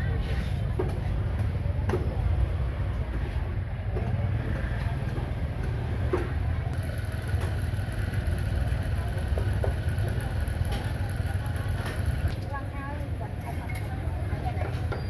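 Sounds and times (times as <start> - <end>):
motorbike engines rumbling: 0.0 - 15.0
people's voices: 0.0 - 15.0.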